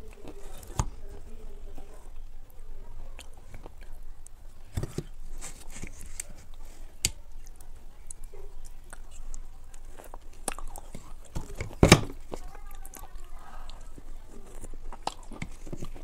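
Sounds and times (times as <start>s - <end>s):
close chewing and biting: 0.0s - 16.0s.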